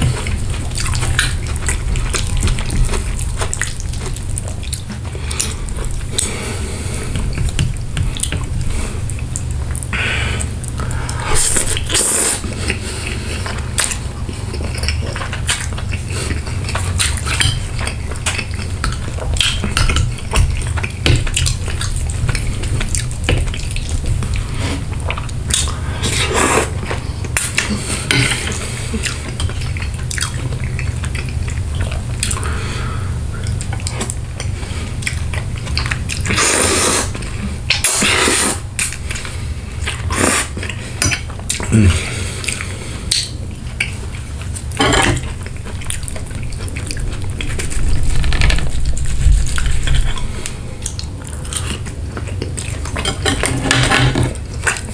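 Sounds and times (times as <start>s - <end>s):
wet chewing and slurping: 0.0s - 54.9s.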